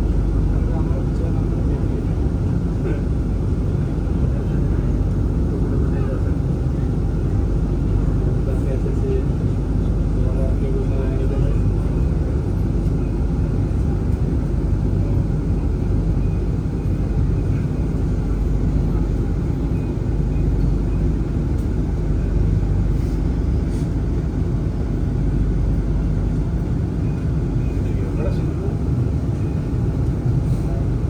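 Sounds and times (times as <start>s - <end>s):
urban ambience rumble: 0.0s - 31.0s.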